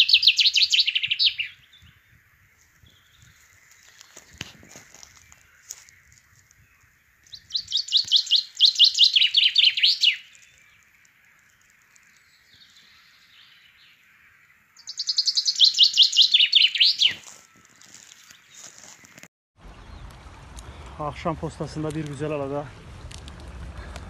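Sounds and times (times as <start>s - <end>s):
songbird singing: 0.0s - 22.5s.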